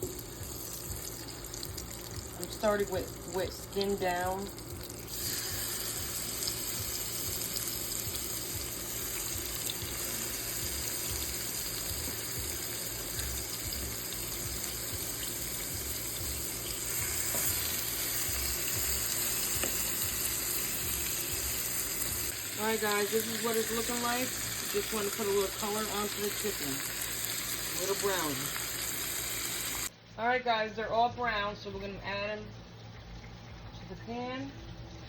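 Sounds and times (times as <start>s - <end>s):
chicken sizzling in oil: 0.0s - 29.9s.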